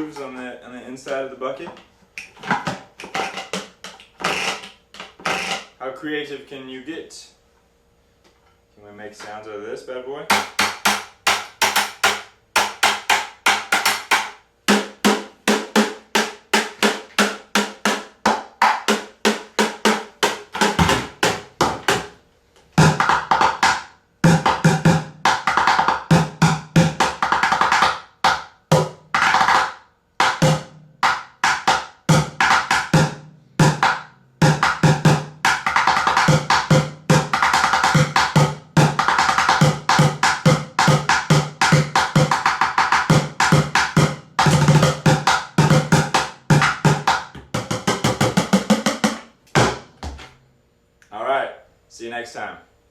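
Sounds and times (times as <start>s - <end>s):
bucket drumming: 2.2s - 5.8s, 10.3s - 22.2s, 22.8s - 50.3s.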